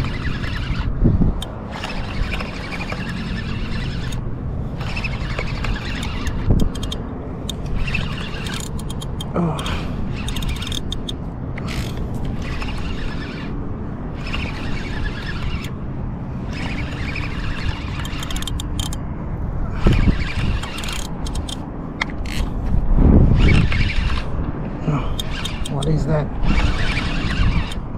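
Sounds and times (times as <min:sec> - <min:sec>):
fishing reel gears whirring: 0:00.0 - 0:19.1, 0:19.7 - 0:27.9
steady low rumble: 0:00.0 - 0:27.9.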